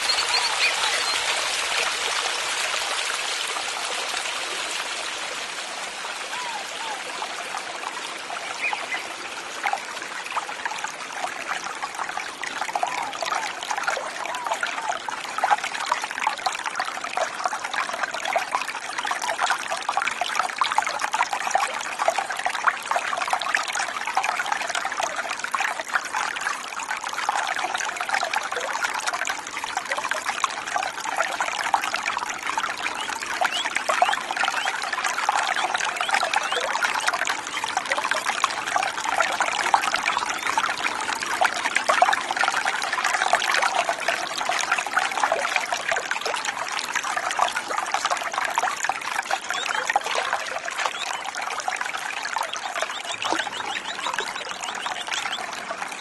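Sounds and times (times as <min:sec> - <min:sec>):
creek trickling over rocks: 0:00.0 - 0:56.0.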